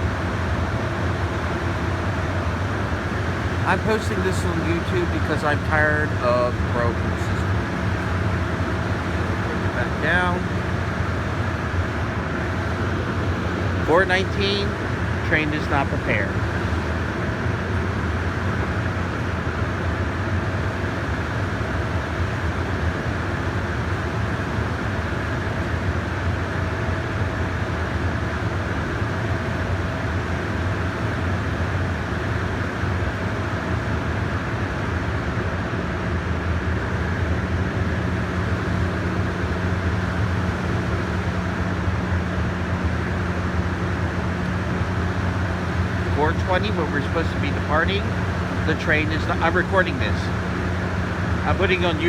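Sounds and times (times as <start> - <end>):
train idling drone: 0.0 - 52.0.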